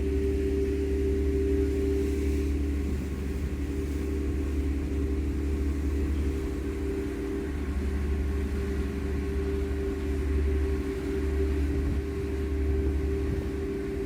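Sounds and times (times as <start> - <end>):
ferry engines droning: 0.0 - 14.0
wind noise: 0.0 - 14.0.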